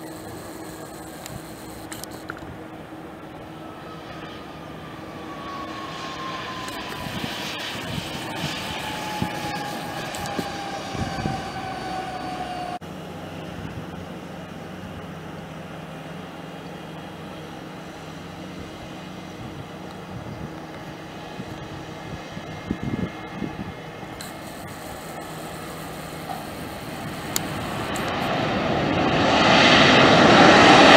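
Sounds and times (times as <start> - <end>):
airliner engine rumble: 0.0 - 30.9
jet engines whining: 0.0 - 30.9.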